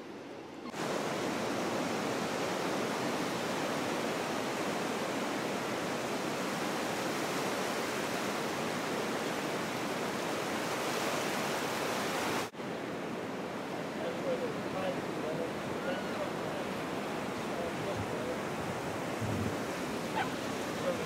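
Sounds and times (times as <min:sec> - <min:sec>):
small waves breaking on beach: 0:00.0 - 0:21.0.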